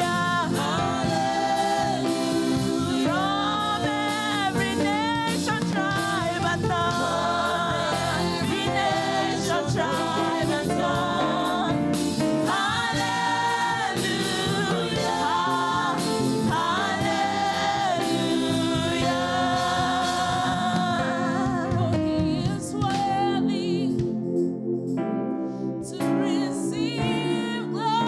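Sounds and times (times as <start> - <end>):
church choir singing: 0.0 - 28.0
instrumental backing: 0.0 - 28.0.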